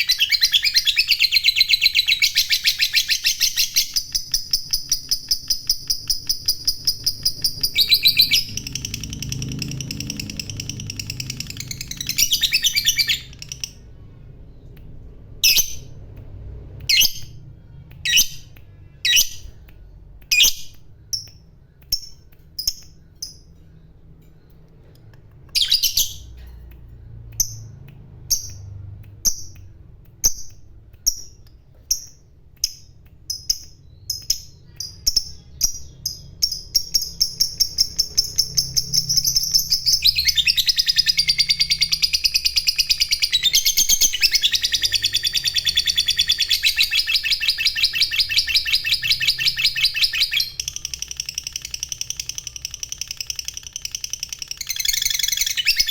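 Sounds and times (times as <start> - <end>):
lovebird chirping trill: 0.0 - 14.7, 16.9 - 19.7, 20.3 - 55.9.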